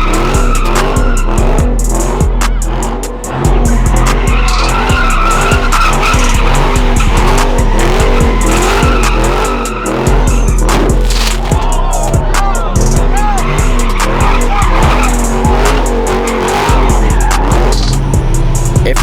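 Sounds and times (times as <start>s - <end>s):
car tires squealing: 0.0s - 19.0s
music with deep bass and beat: 0.0s - 19.0s.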